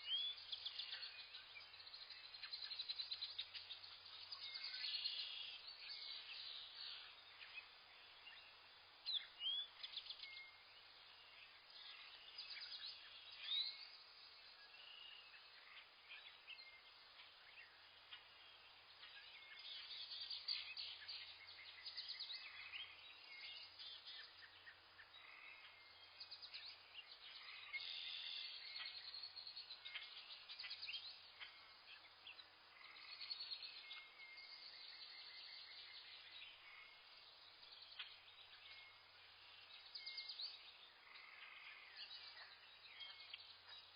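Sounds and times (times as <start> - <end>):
low background hiss: 0.0 - 43.9
small birds chirping: 0.0 - 43.9.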